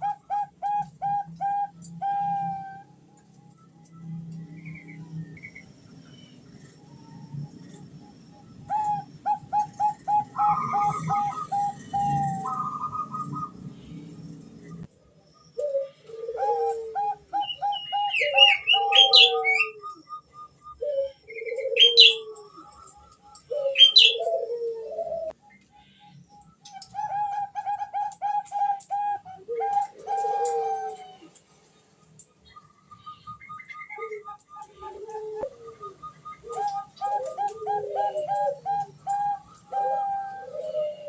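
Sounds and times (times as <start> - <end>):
dove cooing: 0.0 - 3.3, 6.3 - 14.8, 15.5 - 25.4, 26.7 - 31.4, 32.6 - 41.0
small birds chirping and whistling: 0.0 - 41.0.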